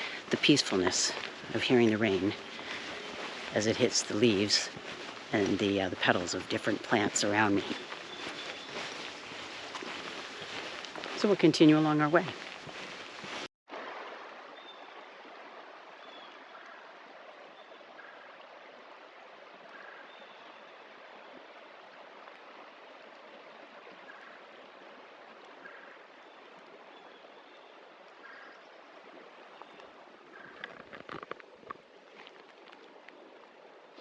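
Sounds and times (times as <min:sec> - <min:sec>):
running water hiss: 0:00.0 - 0:34.0.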